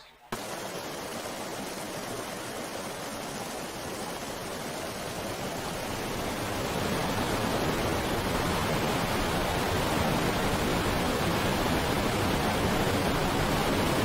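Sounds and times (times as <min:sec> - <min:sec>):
steady rushing noise: 0:00.3 - 0:14.0.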